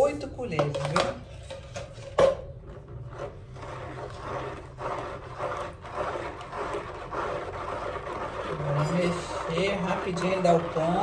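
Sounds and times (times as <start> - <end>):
plastic spoon scraping bowl: 0.1 - 11.0.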